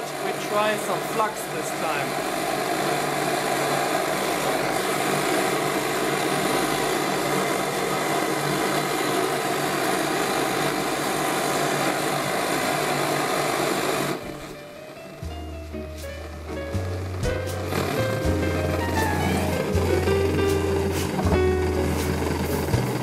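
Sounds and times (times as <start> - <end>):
blowtorch flame rushing: 0.0 - 14.6, 16.8 - 23.0.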